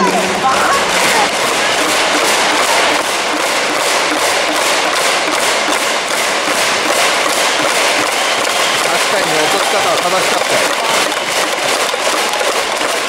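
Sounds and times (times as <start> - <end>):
arena crowd noise: 0.0 - 13.0
rhythmic clapping or noisemakers: 0.0 - 13.0.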